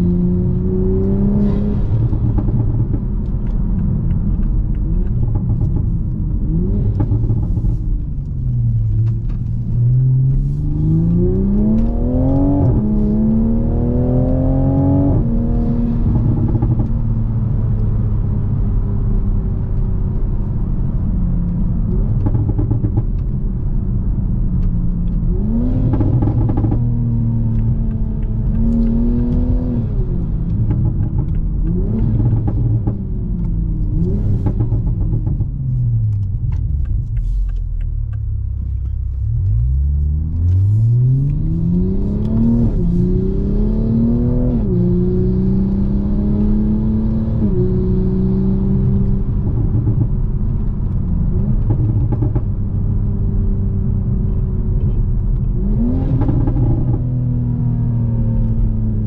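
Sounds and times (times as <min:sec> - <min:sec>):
car engine revving while driving: 0:00.0 - 0:59.0.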